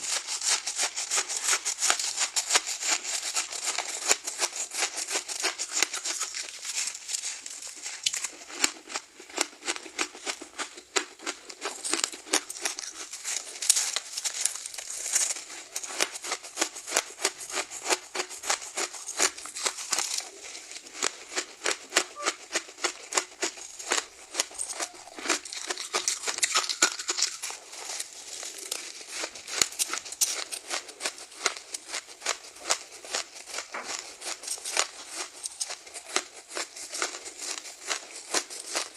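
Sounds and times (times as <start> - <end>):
ice being crunched: 0.0 - 38.9.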